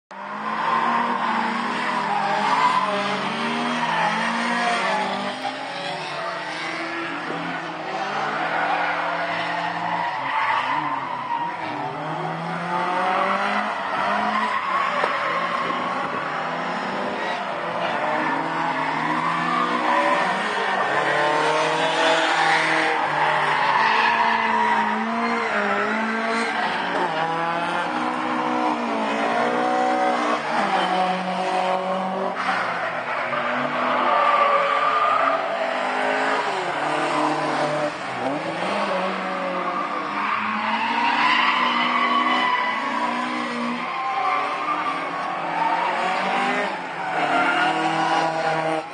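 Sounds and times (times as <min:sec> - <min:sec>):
car engines revving: 0:00.1 - 0:48.9.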